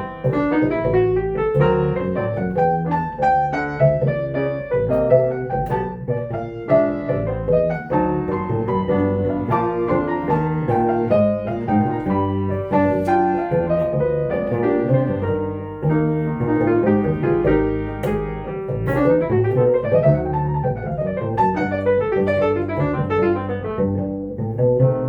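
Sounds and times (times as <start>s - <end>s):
bass low notes: 0.0s - 25.0s
jazz piano ballad: 0.0s - 25.0s.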